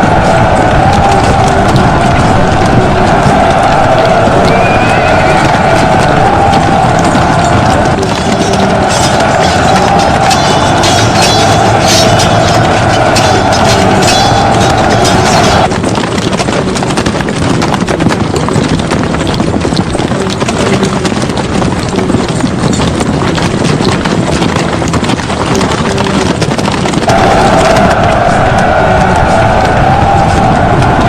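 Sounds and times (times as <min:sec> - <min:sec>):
horses galloping: 0:00.0 - 0:31.0.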